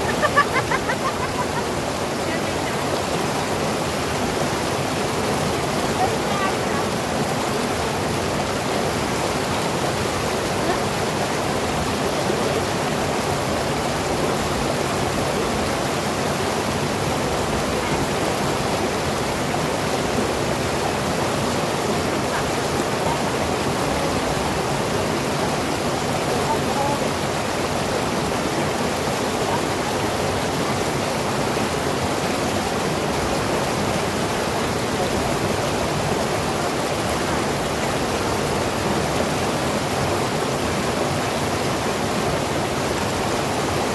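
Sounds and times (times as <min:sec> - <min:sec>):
whitewater rushing over rocks: 0:00.0 - 0:43.9.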